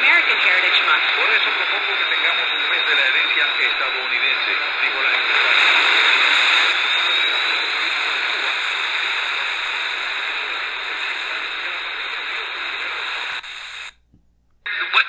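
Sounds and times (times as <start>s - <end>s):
shortwave radio static hiss: 0.0s - 15.0s.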